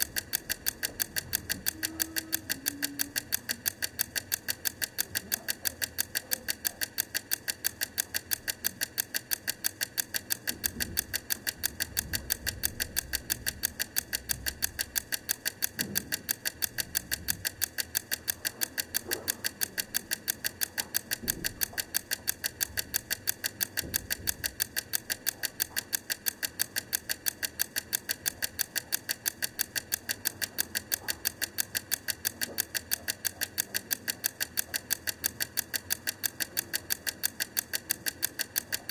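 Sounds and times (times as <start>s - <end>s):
clockwork timer ticking: 0.0s - 38.9s.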